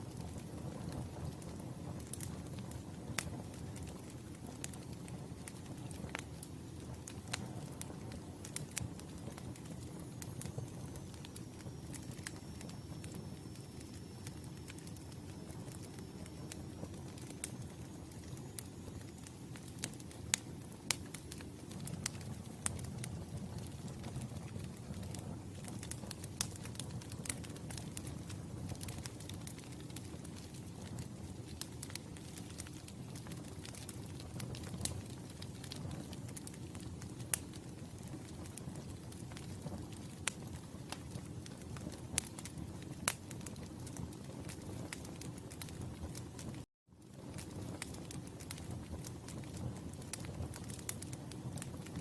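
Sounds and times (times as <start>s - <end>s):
campfire flames rumbling: 0.0s - 52.0s
fire burning rush: 0.0s - 52.0s
wood crackling and popping: 0.0s - 52.0s.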